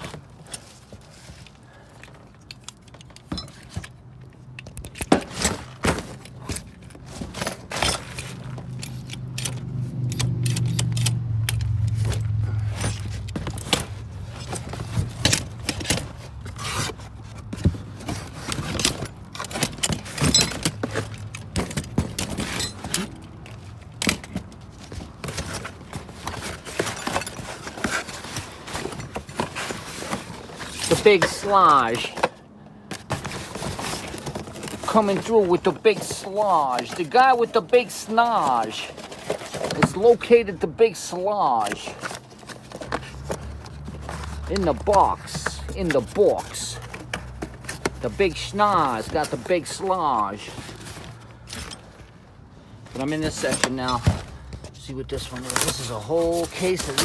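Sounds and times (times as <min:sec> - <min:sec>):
metal hardware clinking and clattering: 0:00.0 - 0:32.4, 0:41.0 - 0:57.0.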